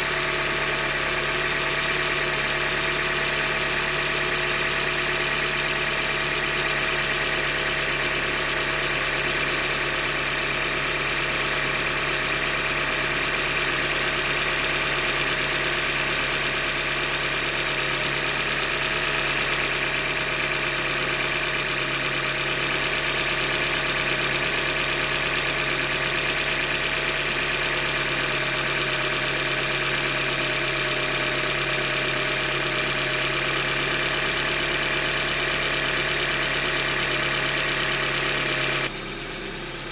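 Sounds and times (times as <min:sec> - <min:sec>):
car engine running: 0:00.0 - 0:39.9
engine knocking: 0:00.0 - 0:39.9.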